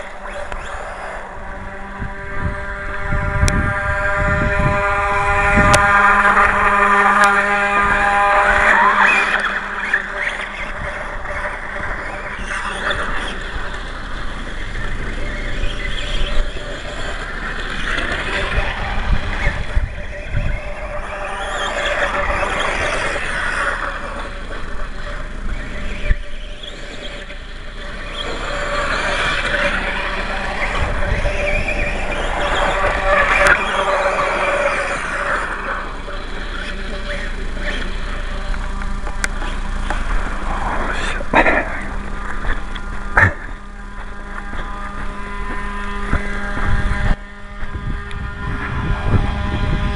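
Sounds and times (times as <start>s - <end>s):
toy motorbike motor whining: 0.0s - 49.9s
wheels over loose dirt: 0.0s - 49.9s.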